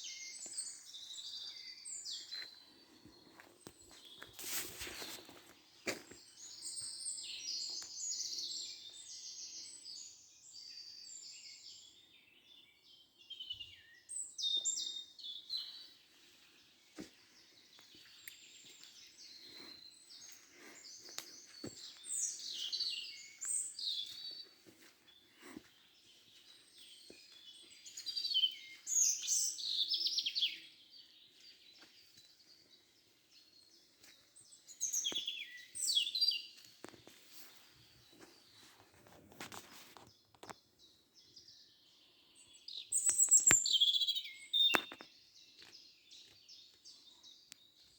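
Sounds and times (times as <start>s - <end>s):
songbirds singing and chirping: 0.0s - 47.9s.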